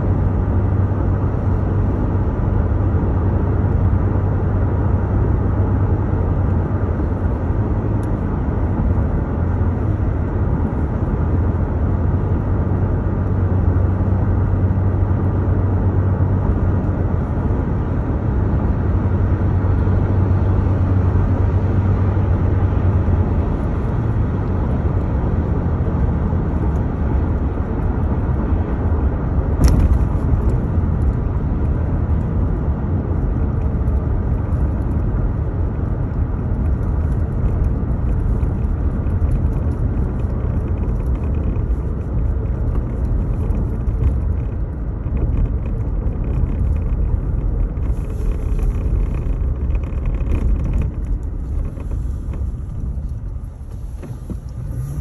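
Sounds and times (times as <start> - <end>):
road and engine rumble in car: 0.0 - 55.0.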